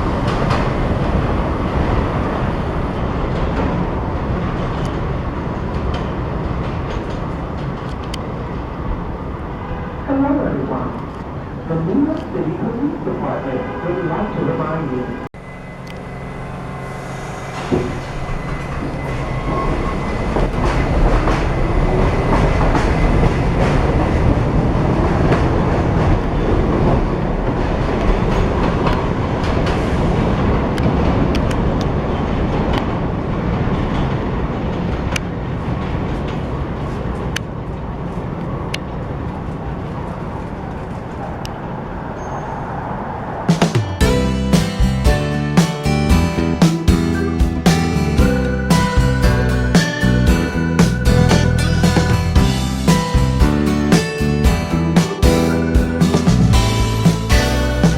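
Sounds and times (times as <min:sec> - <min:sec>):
subway train rumbling: 0:00.0 - 0:57.9.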